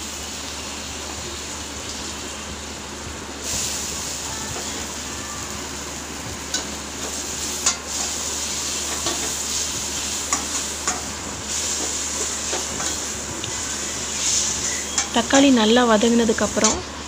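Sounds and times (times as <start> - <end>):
onions and tomatoes sizzling in oil: 0.0 - 17.0.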